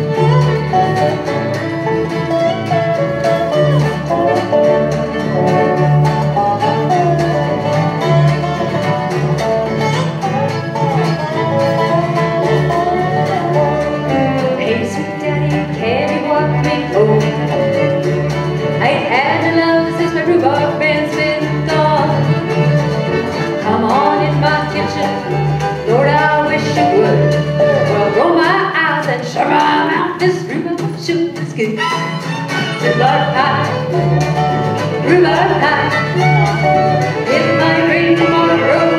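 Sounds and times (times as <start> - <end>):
acoustic guitar: 0.0 - 38.9
fiddle: 0.0 - 38.9
resonator guitar: 0.0 - 38.9
upright bass: 0.0 - 38.9.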